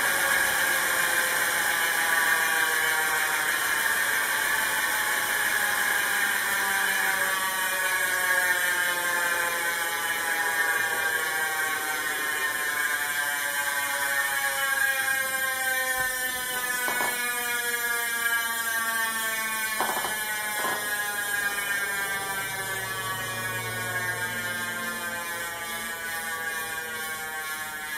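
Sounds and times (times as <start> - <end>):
bicycle hub freewheeling buzz: 0.0 - 27.9.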